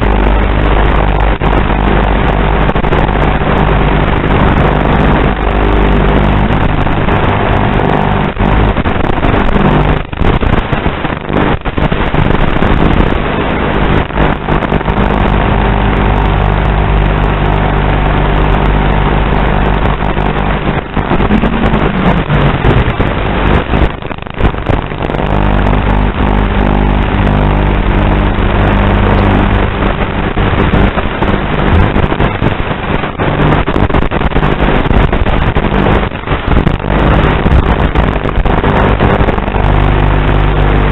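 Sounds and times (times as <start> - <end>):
steady loud buzz: 0.0 - 40.9.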